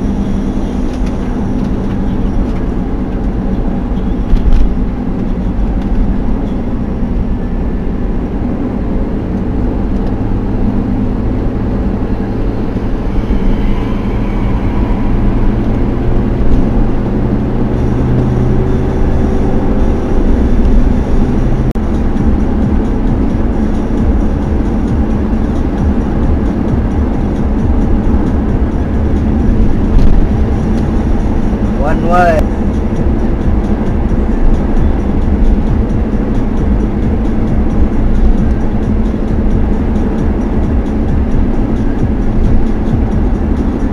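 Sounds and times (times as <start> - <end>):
low drone: 0.0 - 43.9
tyre and engine rumble: 0.0 - 43.9.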